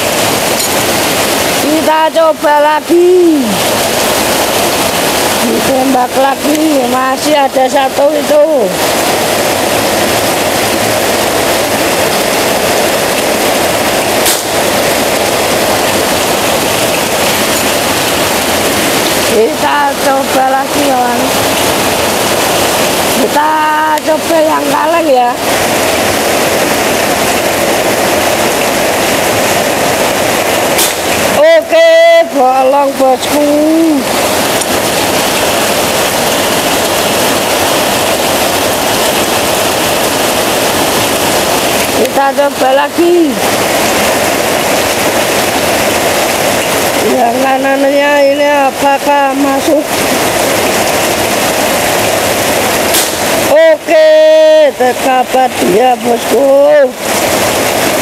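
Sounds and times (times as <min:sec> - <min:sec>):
heavy rain: 0:00.0 - 0:58.0
water splashing off roof: 0:00.0 - 0:58.0.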